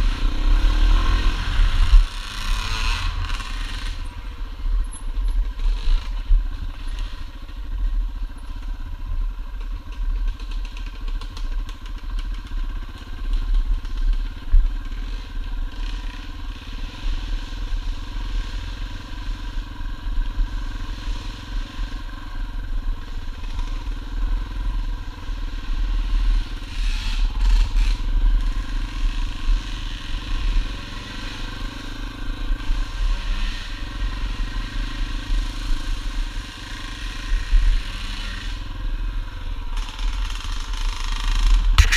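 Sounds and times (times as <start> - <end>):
dirt bike engine: 0.0 - 41.9.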